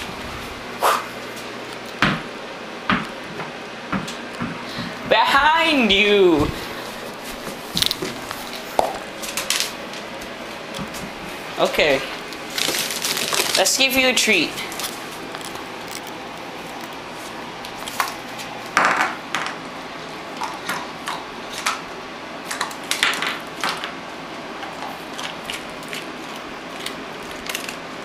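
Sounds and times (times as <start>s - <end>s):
box fan humming: 0.0s - 28.0s.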